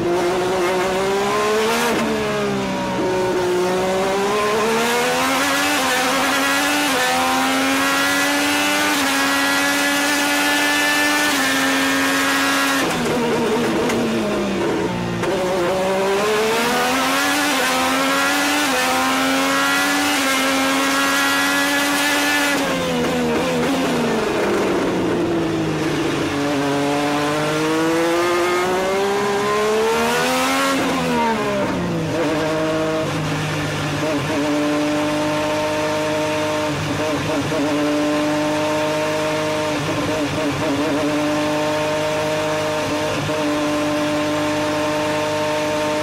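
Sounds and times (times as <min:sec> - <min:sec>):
race car engine at full throttle: 0:00.0 - 0:46.0.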